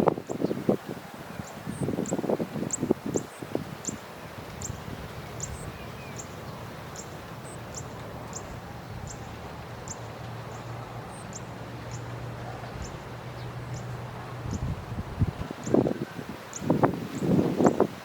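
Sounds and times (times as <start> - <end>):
steady rustling hiss: 0.0 - 18.0.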